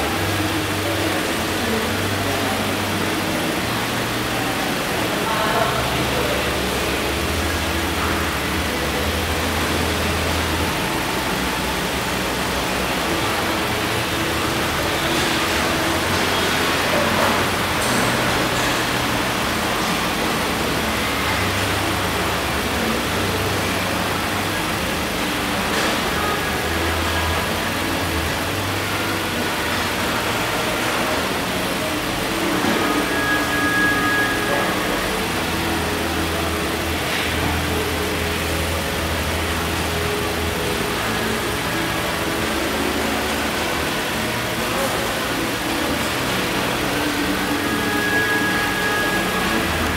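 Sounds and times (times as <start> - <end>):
car engine idling: 0.0 - 49.9
constant hiss: 0.0 - 49.9.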